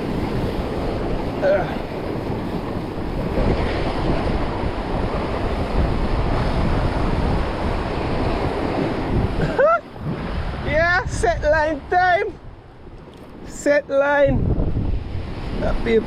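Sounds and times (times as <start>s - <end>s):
surf washing against rocks: 0.0s - 16.0s
wind buffeting microphone: 0.0s - 16.0s.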